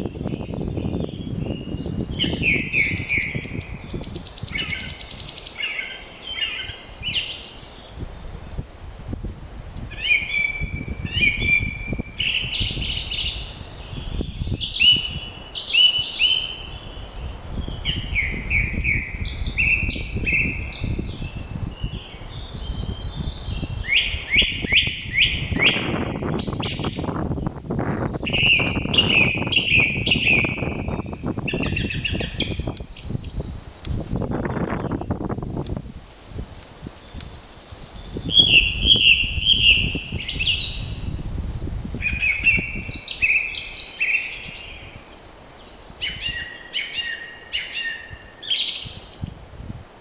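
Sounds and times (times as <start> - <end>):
songbirds singing: 0.0 - 8.6, 9.8 - 50.0
low rush of wind: 0.0 - 50.0.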